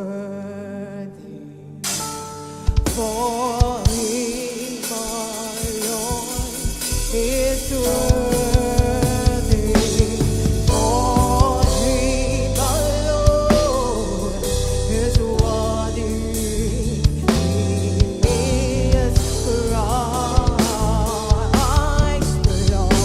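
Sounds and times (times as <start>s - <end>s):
person singing: 0.0s - 23.0s
band playing: 1.9s - 23.0s
drum kit beat: 1.9s - 23.0s.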